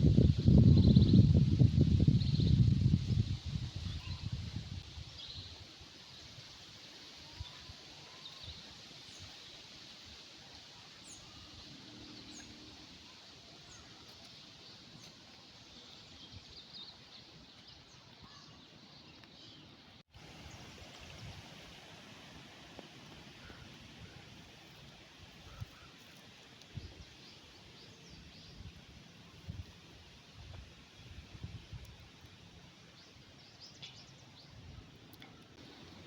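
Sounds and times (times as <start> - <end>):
steady background hiss: 3.3 - 36.0.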